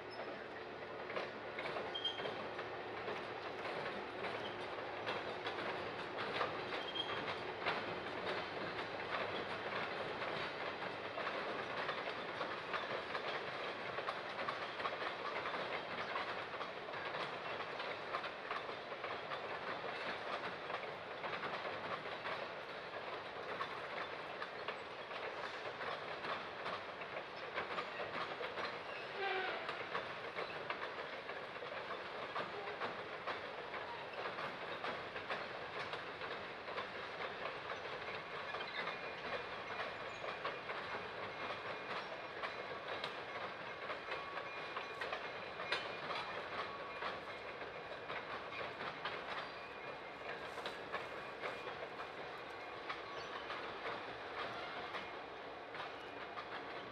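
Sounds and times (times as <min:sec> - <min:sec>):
train wheels clicking over rail joints: 0:00.0 - 0:56.9.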